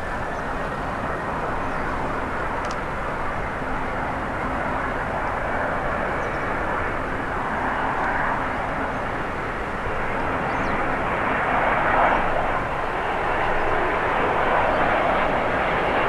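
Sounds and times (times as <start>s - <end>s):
jet engine rush: 0.0s - 16.0s.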